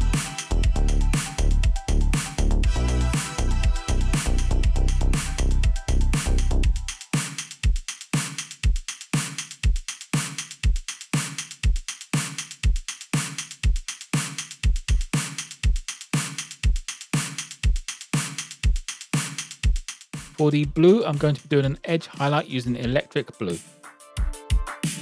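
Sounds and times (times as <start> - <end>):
kick drum: 0.0 - 21.8, 24.2 - 24.8
hi-hat strikes: 0.0 - 25.0.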